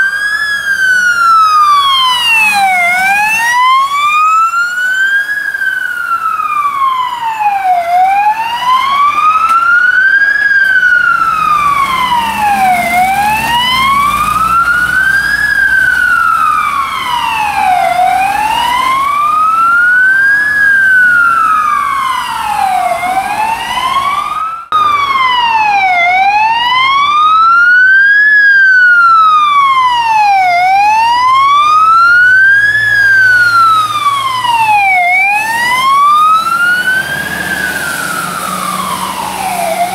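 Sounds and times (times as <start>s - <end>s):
fire engine siren wailing: 0.0s - 39.9s.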